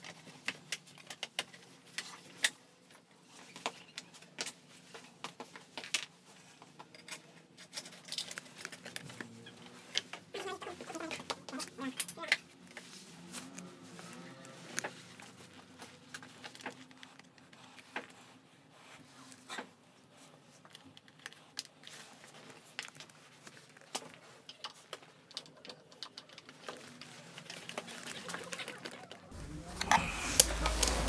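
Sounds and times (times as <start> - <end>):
rustling: 1.6 - 31.0.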